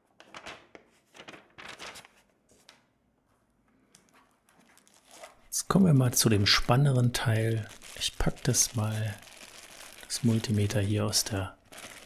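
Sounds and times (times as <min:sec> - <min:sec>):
paper leaflet rustling: 0:00.0 - 0:02.8, 0:04.5 - 0:12.0
soft handling sounds: 0:00.2 - 0:12.0.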